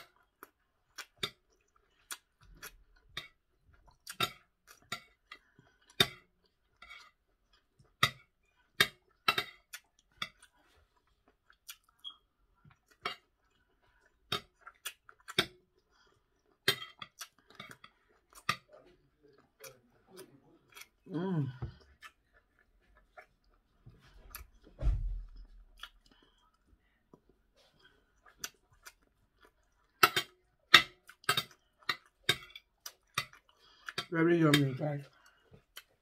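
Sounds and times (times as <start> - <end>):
chewing with mouth clicks: 0.0 - 24.7, 25.3 - 36.0.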